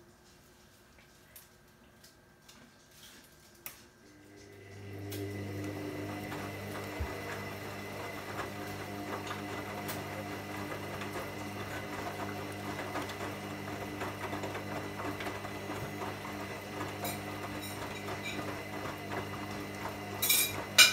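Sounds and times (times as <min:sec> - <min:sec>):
washing machine motor humming: 0:04.0 - 0:20.9.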